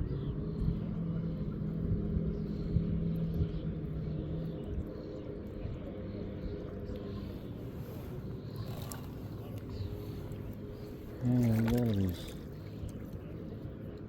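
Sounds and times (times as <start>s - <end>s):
small boat motor humming: 0.0s - 14.0s.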